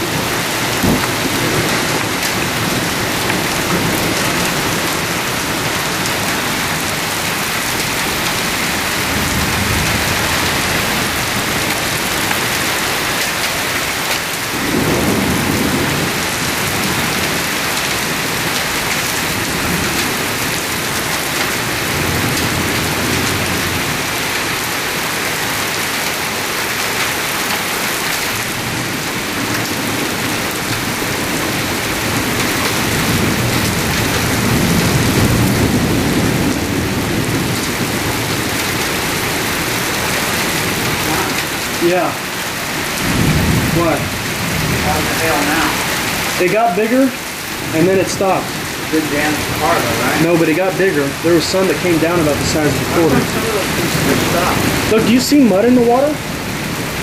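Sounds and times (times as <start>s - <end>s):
thunder rumbling: 0.0s - 57.0s
torrential rain: 0.0s - 57.0s.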